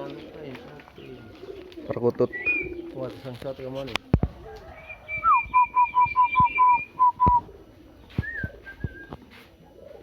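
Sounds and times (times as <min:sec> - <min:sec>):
dove cooing: 0:00.0 - 0:10.0.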